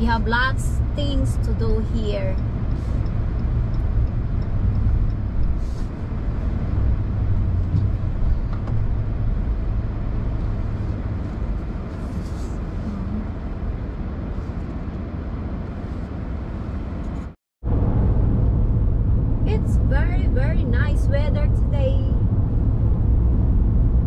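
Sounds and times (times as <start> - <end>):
car cabin road and engine noise: 0.0 - 24.0.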